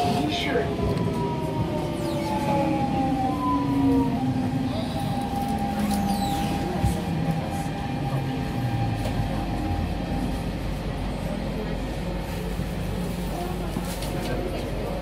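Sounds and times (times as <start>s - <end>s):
train rumbling on rails: 0.0s - 15.0s
train traction whine: 0.0s - 15.0s.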